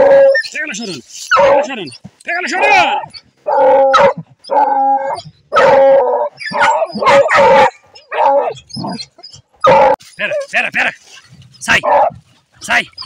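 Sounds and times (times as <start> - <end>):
hunting dogs baying and barking: 0.0 - 13.0.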